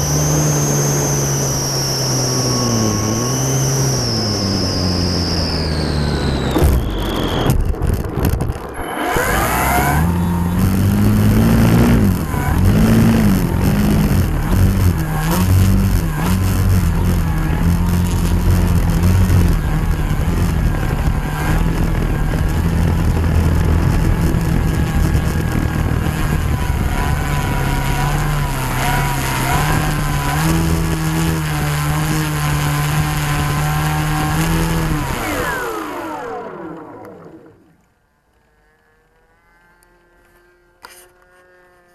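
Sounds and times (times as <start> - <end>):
electric motor and propeller: 0.0 - 41.9.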